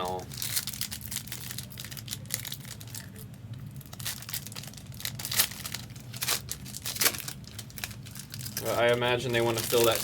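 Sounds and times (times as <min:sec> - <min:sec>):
foil wrappers crinkling: 0:00.0 - 0:10.0
sharp crackle of foil: 0:00.0 - 0:10.0.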